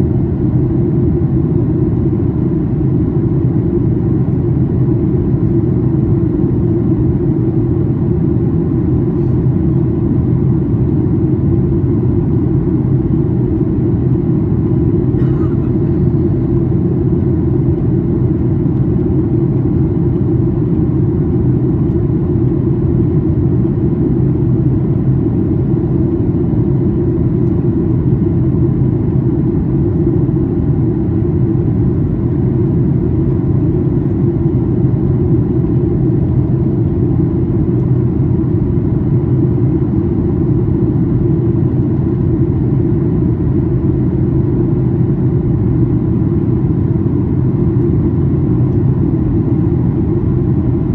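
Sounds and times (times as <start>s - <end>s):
faint steady hum: 0.0s - 50.9s
jet engine rumble: 0.0s - 50.9s.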